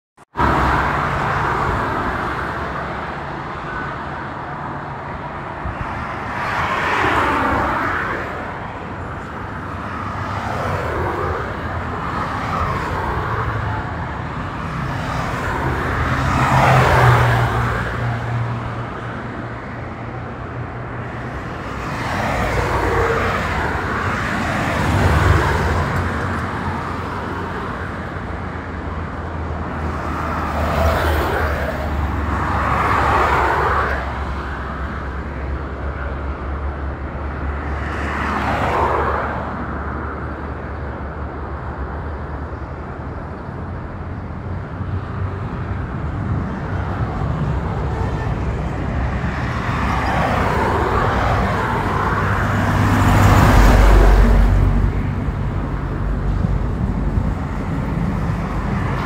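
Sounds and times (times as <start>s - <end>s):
vehicles passing on highway: 0.2s - 59.0s.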